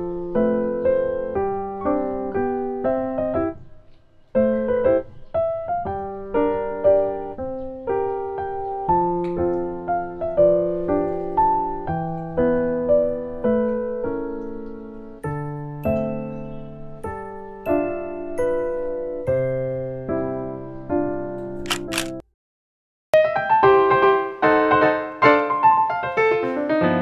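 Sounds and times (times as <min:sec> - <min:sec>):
gentle piano music: 0:00.0 - 0:21.6, 0:23.2 - 0:27.0.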